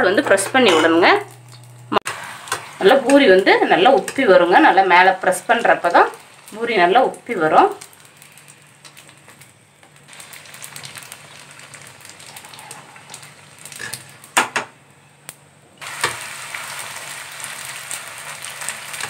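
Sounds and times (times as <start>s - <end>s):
dough deep-frying in hot oil: 1.1s - 14.7s, 15.8s - 19.0s.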